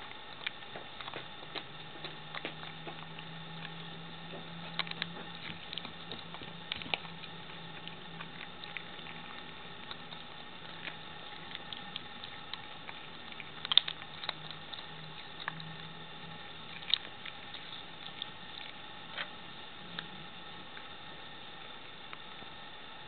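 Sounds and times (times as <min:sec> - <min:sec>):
cat chewing meat and bone: 0:00.0 - 0:23.0.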